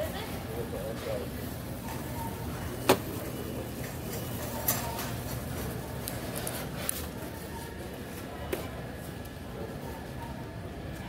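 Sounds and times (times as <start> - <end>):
store background hum: 0.0 - 11.0.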